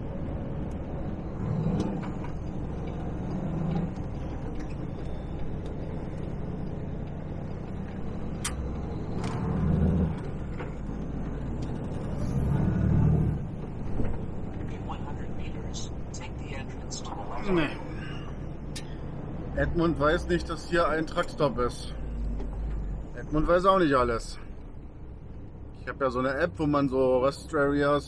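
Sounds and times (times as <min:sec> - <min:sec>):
truck engine and tyres drone: 0:00.0 - 0:28.0.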